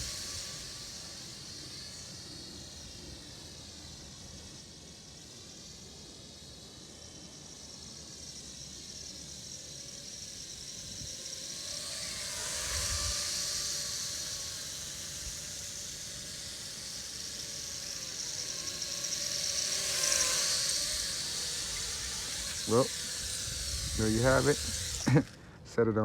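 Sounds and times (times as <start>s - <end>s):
quadcopter propellers whining: 0.0s - 26.0s.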